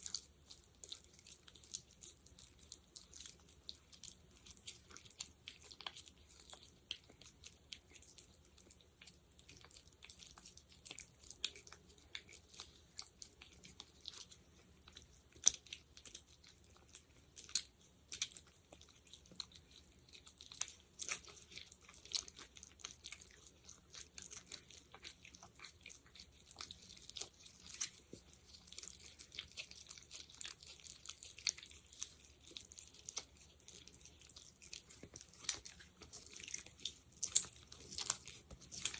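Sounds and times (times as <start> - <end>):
fingers squishing sticky gel: 0.0 - 38.9.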